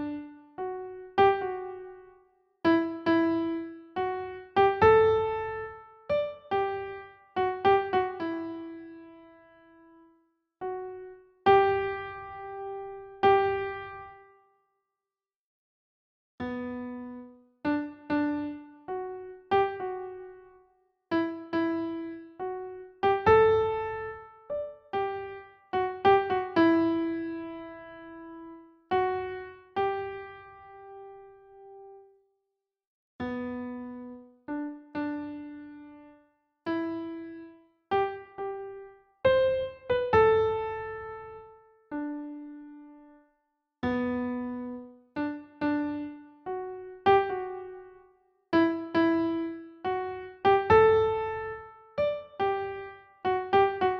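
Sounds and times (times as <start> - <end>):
gentle piano melody: 0.0 - 14.4, 16.4 - 32.1, 33.2 - 43.2, 43.8 - 53.9.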